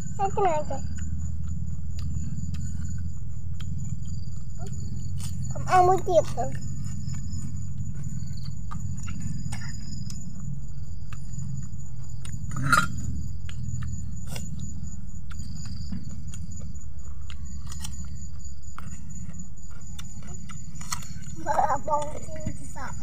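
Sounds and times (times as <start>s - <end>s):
insects chirping: 0.0s - 23.0s
low hum: 0.0s - 23.0s
people eating by hand: 0.0s - 23.0s.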